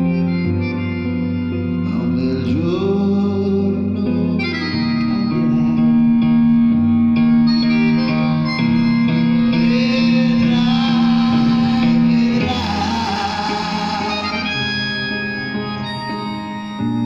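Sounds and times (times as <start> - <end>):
sustained instrumental chords: 0.0 - 17.0.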